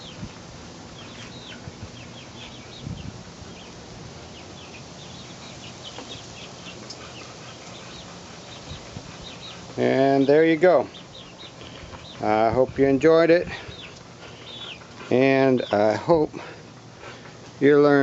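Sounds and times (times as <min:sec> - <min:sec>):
background hiss: 0:00.0 - 0:18.0
chicks cheeping: 0:00.0 - 0:18.0.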